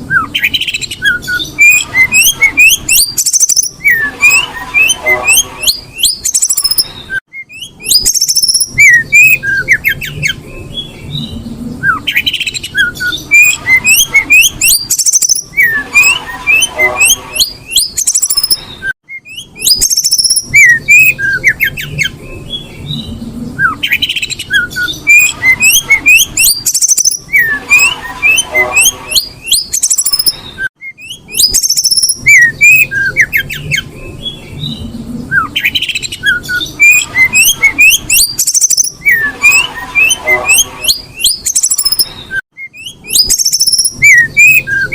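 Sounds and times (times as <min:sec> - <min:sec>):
bird chirping squeakily: 0:00.3 - 0:44.9.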